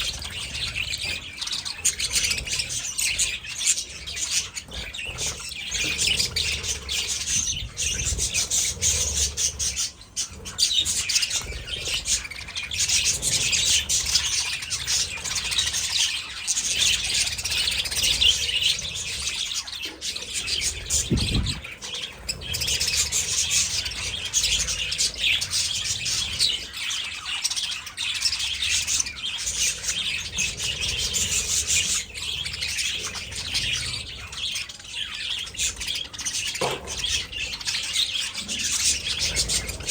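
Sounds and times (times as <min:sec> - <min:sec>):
budgies chattering and chirping: 0:00.0 - 0:39.9.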